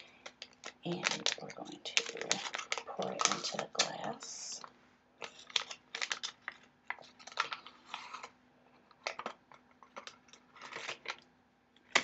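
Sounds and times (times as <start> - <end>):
paper packet crinkling: 0.0 - 8.4, 9.0 - 11.2.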